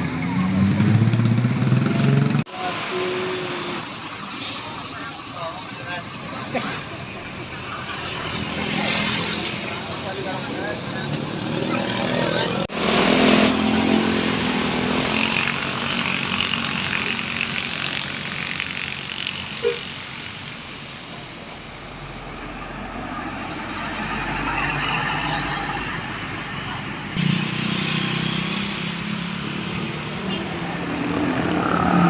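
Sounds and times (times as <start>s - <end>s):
traffic passing close by: 0.0s - 32.0s.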